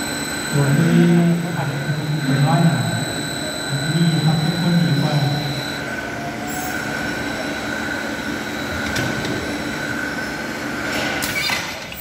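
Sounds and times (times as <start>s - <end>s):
machine motor whining: 0.0s - 11.0s.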